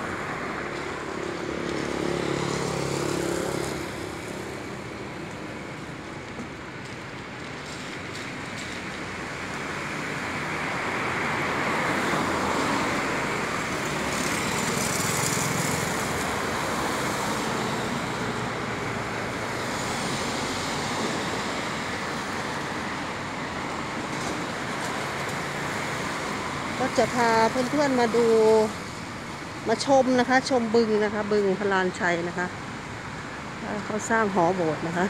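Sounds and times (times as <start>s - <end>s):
traffic on wet street: 0.0s - 35.0s.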